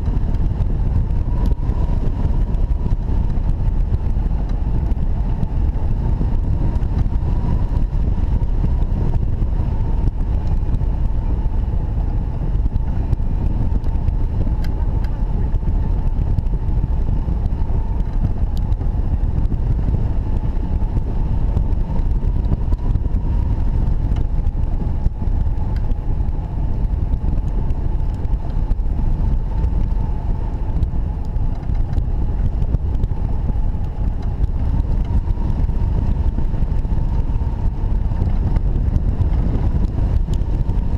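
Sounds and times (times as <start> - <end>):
wind rumble on microphone: 0.0 - 40.9.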